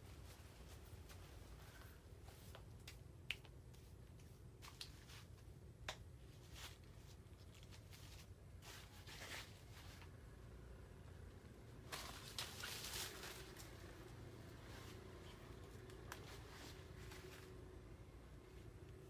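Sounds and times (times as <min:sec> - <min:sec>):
faint clicks and rustles: 0:00.0 - 0:19.0.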